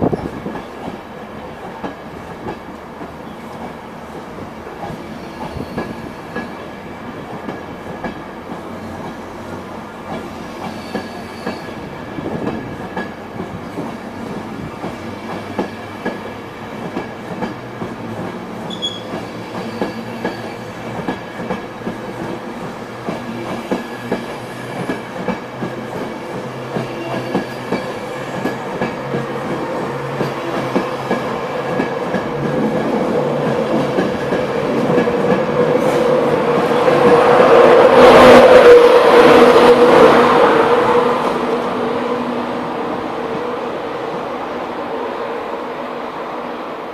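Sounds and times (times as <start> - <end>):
train coaches rolling past: 0.0 - 46.9.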